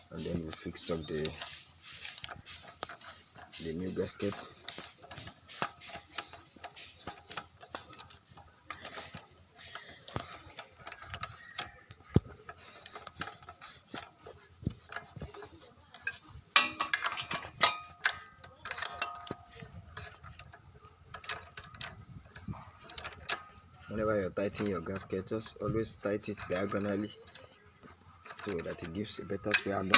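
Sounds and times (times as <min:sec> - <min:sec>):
hand tools clicking on metal: 0:00.0 - 0:29.9.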